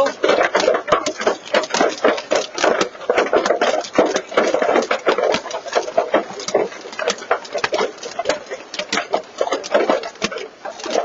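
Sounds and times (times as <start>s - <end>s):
hailstones clattering on truck body: 0.0s - 11.0s.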